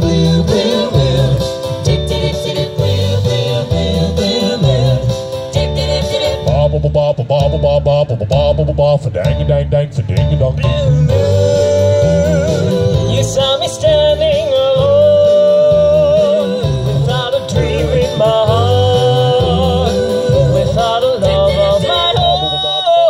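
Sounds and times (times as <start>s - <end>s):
vocal group singing in harmony: 0.0s - 9.4s, 10.2s - 23.0s
pulsing bass line: 0.0s - 23.0s.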